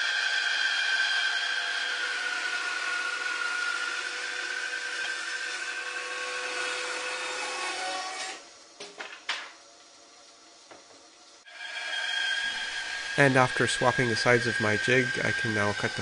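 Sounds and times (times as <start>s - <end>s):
bandsaw cutting wood: 0.0s - 8.4s, 11.5s - 16.0s.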